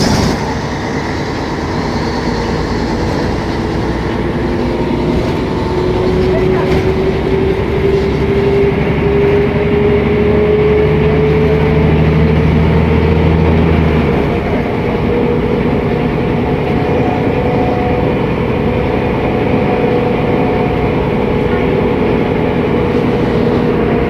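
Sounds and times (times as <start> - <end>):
bus diesel engine under load: 0.0 - 24.0
bus running noise: 0.0 - 24.0
rising whine: 0.0 - 24.0.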